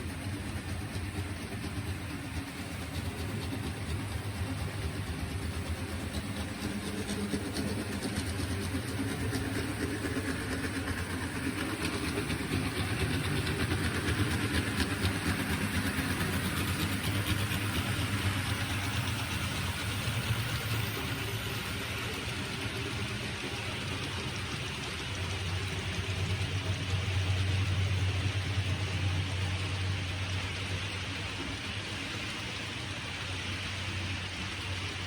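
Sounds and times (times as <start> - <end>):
model train motor hum: 0.0 - 35.0
wheels clicking on track: 0.0 - 35.0.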